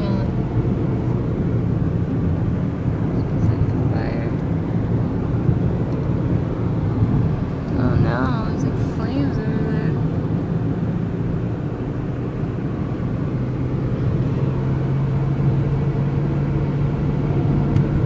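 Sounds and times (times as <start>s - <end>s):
car engine and road noise inside: 0.0s - 18.0s.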